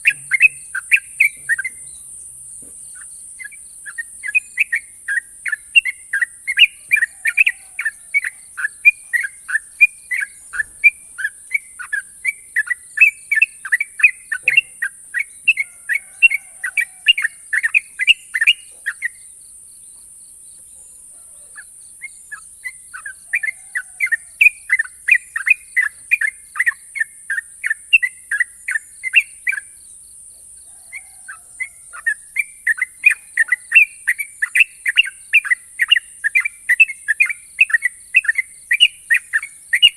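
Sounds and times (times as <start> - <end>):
bird singing rapid piercing notes: 0.0 - 20.0, 20.7 - 30.0, 30.9 - 39.9.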